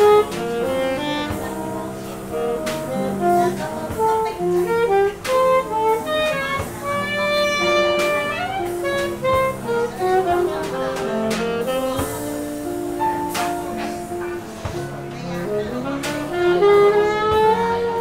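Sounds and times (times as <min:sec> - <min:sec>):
jazz guitar and rhythm accompaniment: 0:00.0 - 0:18.0
saxophone melody: 0:00.0 - 0:18.0.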